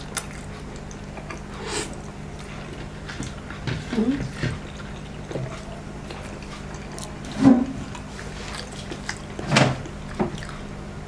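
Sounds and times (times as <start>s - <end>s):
man chewing wetly: 0.0s - 11.0s
steady low hum: 0.0s - 11.0s.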